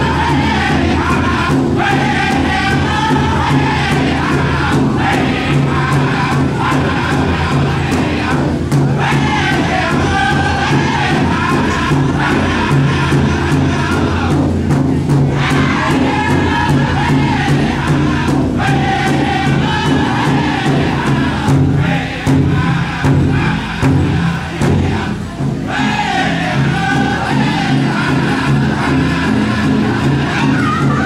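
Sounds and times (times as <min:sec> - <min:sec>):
steady beat on large drum: 0:00.0 - 0:31.0
voices singing in unison: 0:00.0 - 0:31.0.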